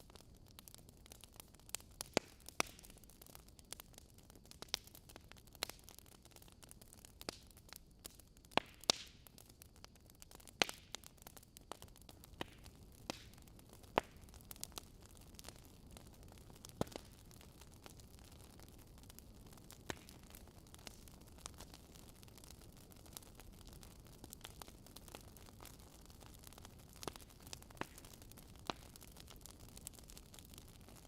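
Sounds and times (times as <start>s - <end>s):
faint steady hiss: 0.0s - 31.0s
logs crackling in fireplace: 0.0s - 31.0s.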